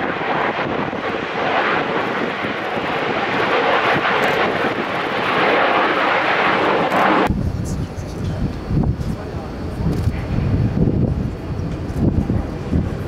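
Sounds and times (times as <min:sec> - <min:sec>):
jet engine roar at takeoff: 0:00.0 - 0:13.0.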